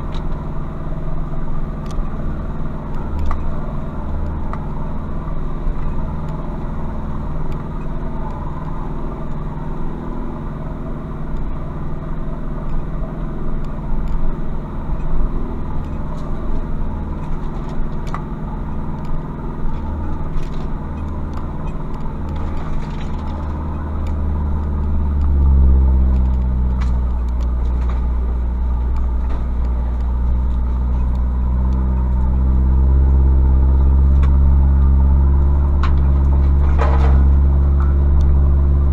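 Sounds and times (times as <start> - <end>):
diesel pickup engine running: 0.0 - 38.9.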